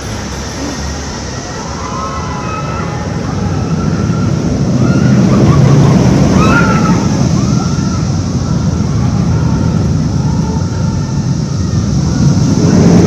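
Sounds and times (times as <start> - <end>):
roller coaster rumbling on track: 0.0 - 13.0
wind buffeting microphone: 0.0 - 13.0
distant voices yelling: 0.2 - 13.0.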